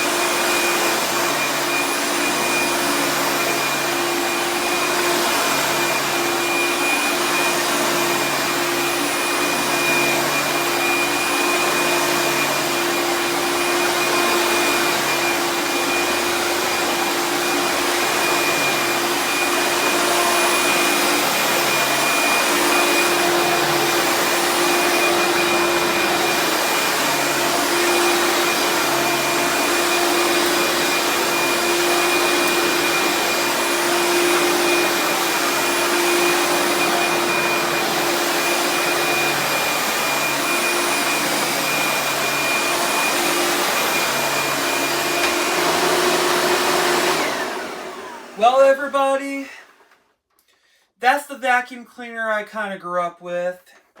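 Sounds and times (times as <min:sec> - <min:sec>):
vacuum cleaner running on carpet: 0:00.0 - 0:48.7.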